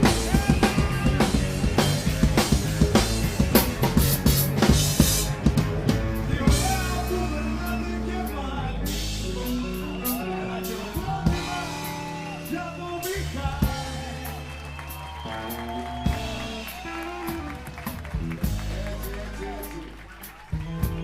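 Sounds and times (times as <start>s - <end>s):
song with singing drums and bass: 0.0s - 19.6s.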